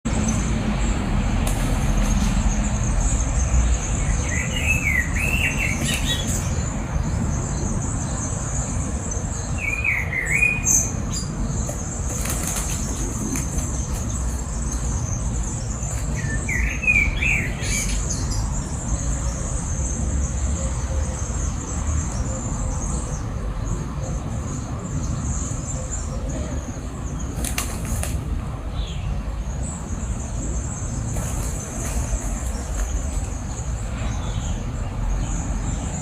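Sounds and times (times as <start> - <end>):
birds warbling chirps: 0.1 - 36.0
continuous high buzz: 0.1 - 36.0.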